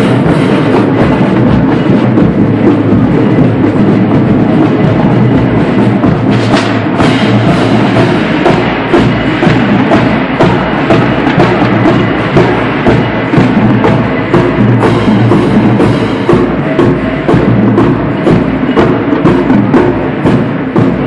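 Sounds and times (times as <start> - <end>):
marching band playing: 0.0 - 21.0
sharp drum hits: 0.0 - 21.0.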